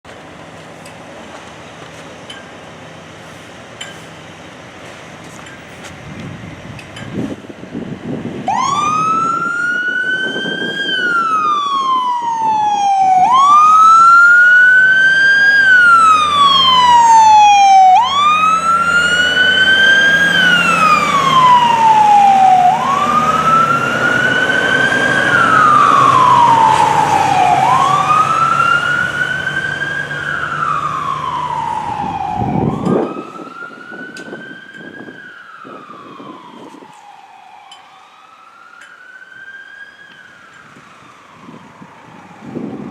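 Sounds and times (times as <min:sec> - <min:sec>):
fire truck siren wailing: 0:07.4 - 0:42.9.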